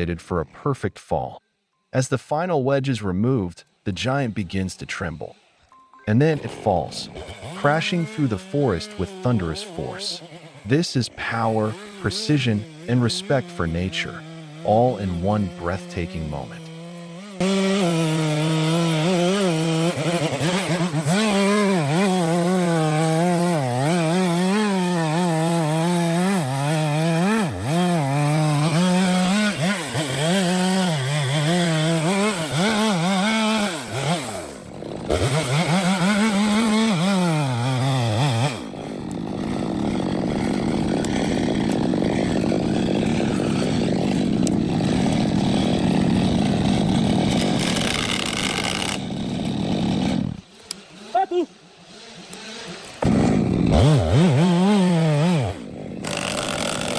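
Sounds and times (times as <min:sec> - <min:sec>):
rough sawing noise: 0:03.0 - 0:56.9
chainsaw cutting wood: 0:03.2 - 0:56.9.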